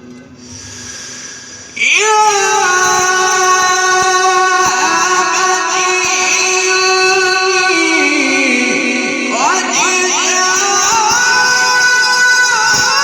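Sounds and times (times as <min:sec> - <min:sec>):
man reciting through loudspeaker: 0:00.0 - 0:13.0.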